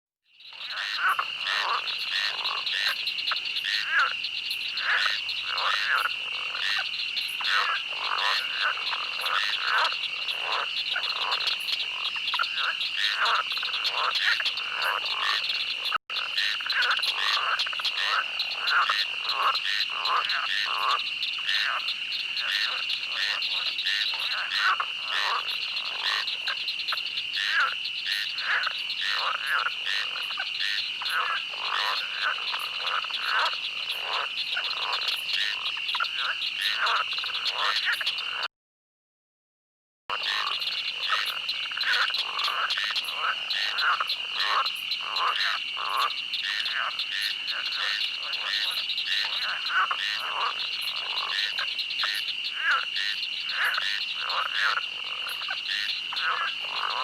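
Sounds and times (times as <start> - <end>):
frogs quacking chorus: 0.4 - 38.5, 40.1 - 57.0.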